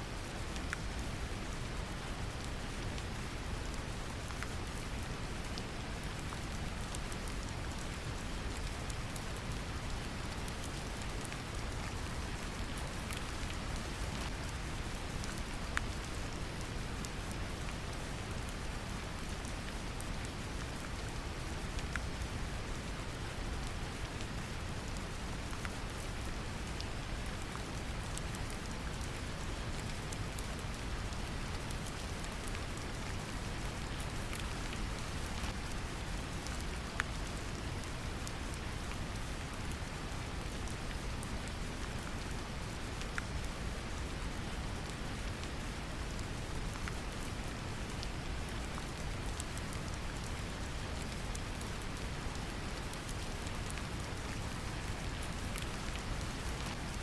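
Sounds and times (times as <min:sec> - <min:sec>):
brown noise hiss: 0:00.0 - 0:57.0
gentle rain pattering: 0:00.0 - 0:57.0.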